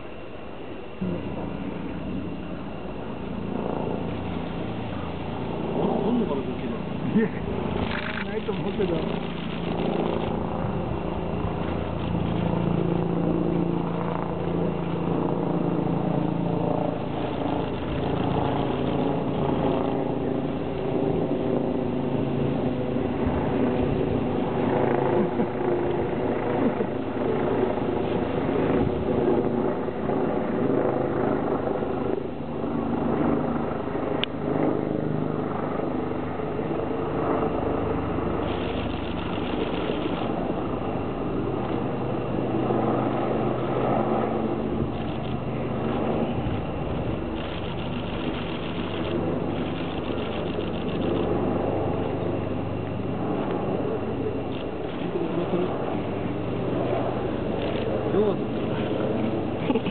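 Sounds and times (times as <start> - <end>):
engine-like hum: 0.0 - 59.9.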